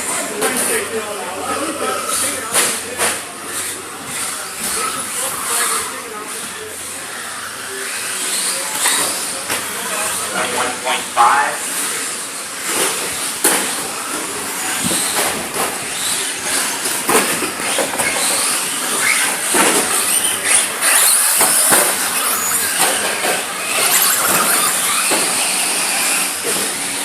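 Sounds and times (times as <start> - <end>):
radio-controlled cars hissing: 0.1 - 27.0.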